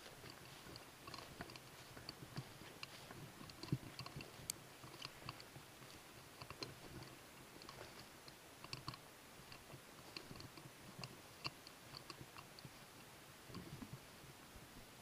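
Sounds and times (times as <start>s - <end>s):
soft rustle: 0.0s - 15.0s
small high-pitched clicks: 0.2s - 13.9s.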